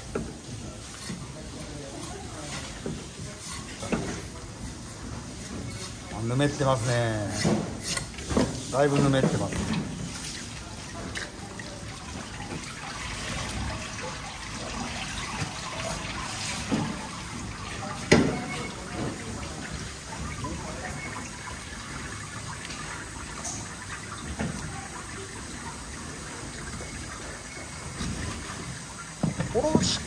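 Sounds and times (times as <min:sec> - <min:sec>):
running water splashing: 0:00.0 - 0:30.0.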